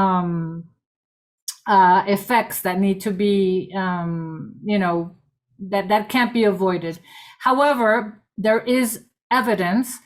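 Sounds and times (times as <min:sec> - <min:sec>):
woman speaking: 0:00.0 - 0:00.6, 0:01.5 - 0:10.0.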